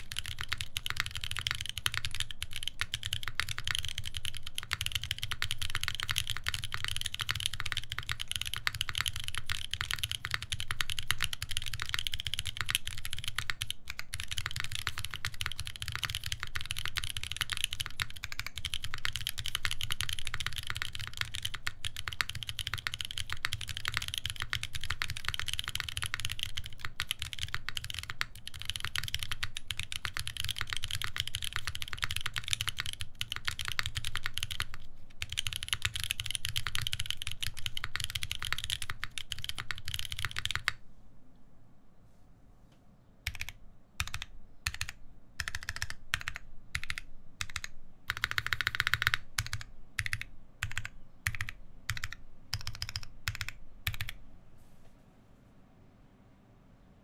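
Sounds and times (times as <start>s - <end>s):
fast mechanical keyboard typing: 0.0s - 40.8s, 43.2s - 54.2s.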